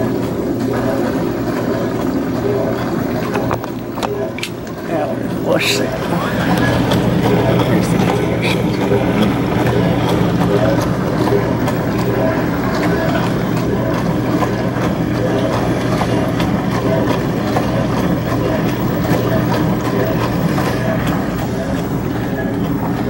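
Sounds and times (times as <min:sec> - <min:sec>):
dishwasher pump hum: 0:00.0 - 0:23.0
water spraying inside dishwasher: 0:00.0 - 0:23.0.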